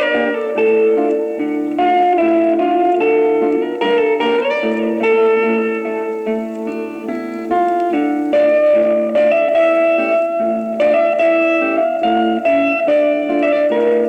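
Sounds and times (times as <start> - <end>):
electric guitar melody: 0.0 - 14.0
guitar accompaniment: 0.0 - 14.0.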